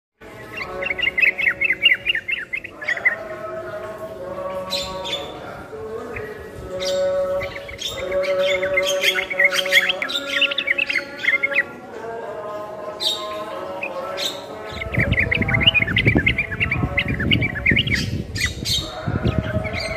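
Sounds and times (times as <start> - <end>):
birds chirping: 0.2 - 19.9.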